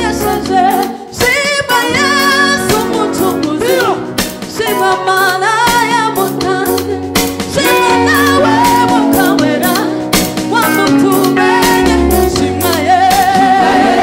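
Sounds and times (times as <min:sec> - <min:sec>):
gospel band: 0:00.0 - 0:14.0
lead vocal with vibrato: 0:00.0 - 0:14.0.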